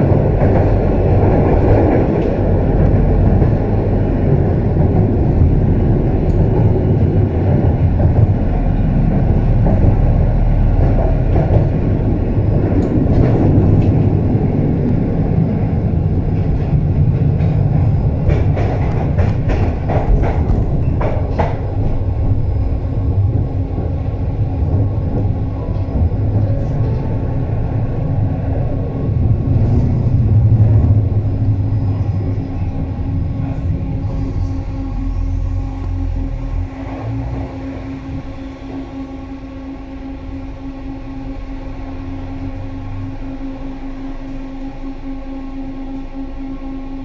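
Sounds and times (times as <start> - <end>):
tram wheels rumbling: 0.0 - 47.0.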